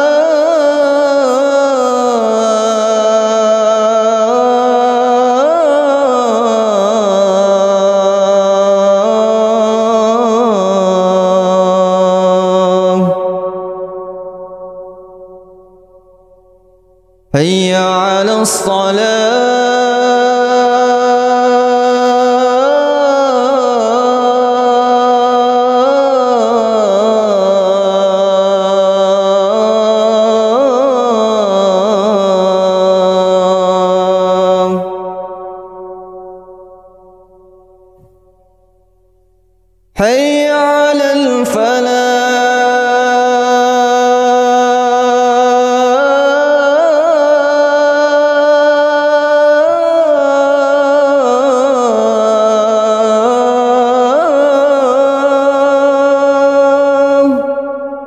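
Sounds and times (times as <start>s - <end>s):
man chanting call to prayer: 0.0s - 15.2s, 17.3s - 36.7s, 40.0s - 58.0s.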